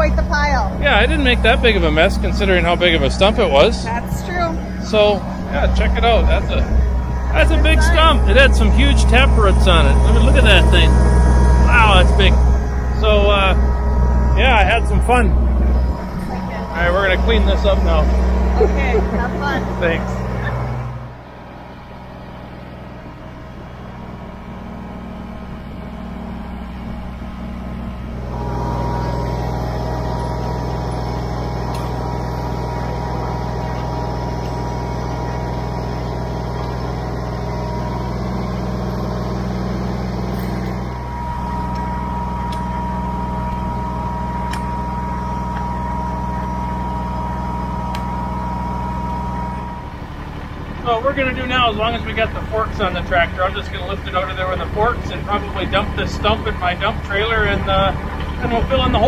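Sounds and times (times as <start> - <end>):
high whine: 0.0 - 59.0
tractor diesel engine idling: 0.0 - 59.0.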